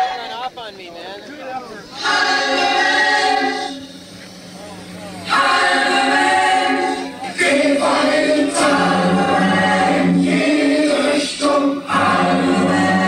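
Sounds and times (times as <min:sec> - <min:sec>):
choir-like sustained chords: 0:01.8 - 0:13.0.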